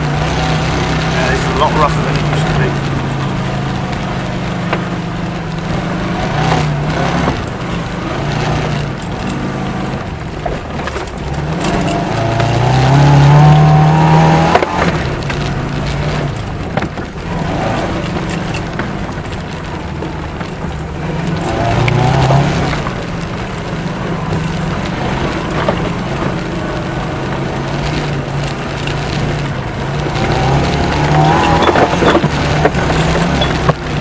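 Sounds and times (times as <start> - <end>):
car bouncing with knocks and clatter: 0.0 - 34.0
car engine revving: 0.0 - 34.0.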